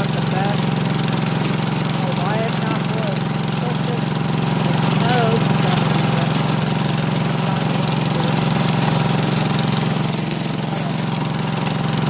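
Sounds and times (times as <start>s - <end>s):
garden tractor engine running: 0.0s - 12.0s
plow pushing snow: 0.0s - 12.0s.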